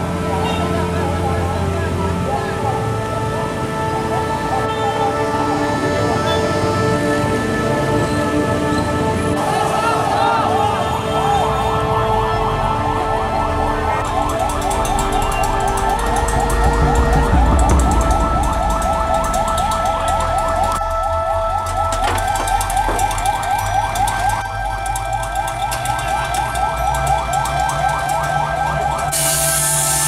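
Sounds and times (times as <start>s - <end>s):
siren yelping: 0.0s - 7.2s, 8.0s - 30.0s
low rumble of traffic engines: 0.0s - 30.0s.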